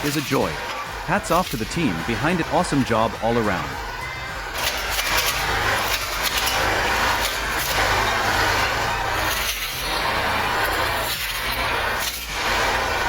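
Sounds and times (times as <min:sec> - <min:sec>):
machine engine running: 0:00.0 - 0:13.0.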